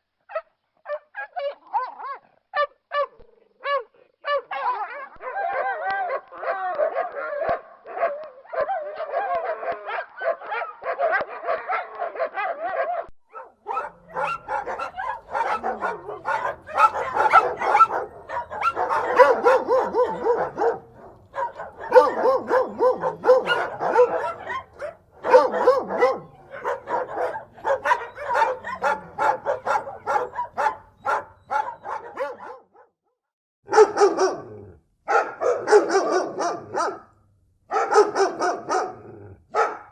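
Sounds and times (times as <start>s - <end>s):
dogs barking and yipping: 0.3s - 32.9s, 33.7s - 37.1s, 37.7s - 39.9s.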